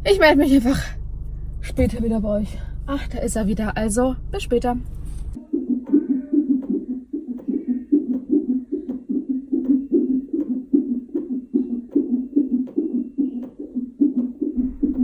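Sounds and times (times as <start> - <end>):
fetal heartbeat pulses on doppler: 0.0 - 15.0.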